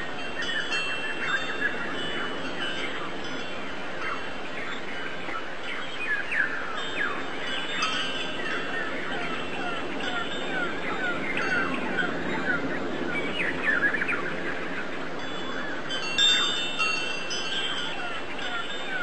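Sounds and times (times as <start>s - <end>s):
birds chirping: 0.0s - 19.0s
steady background hiss: 0.0s - 19.0s.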